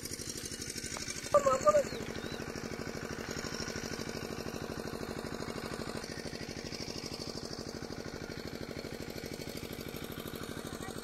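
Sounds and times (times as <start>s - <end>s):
small engine puttering: 0.0s - 11.0s.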